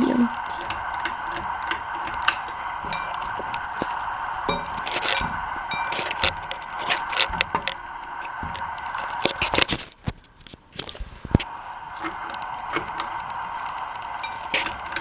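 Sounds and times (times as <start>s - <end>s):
ceiling fan motor hum: 0.0s - 15.0s
fan clicking and ticking: 0.0s - 15.0s.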